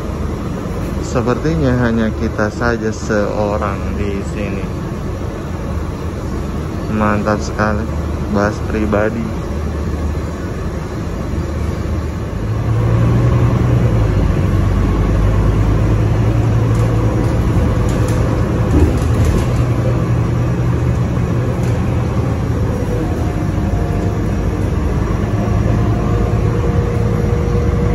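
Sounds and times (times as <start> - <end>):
bus rumbling from inside: 0.0 - 27.9.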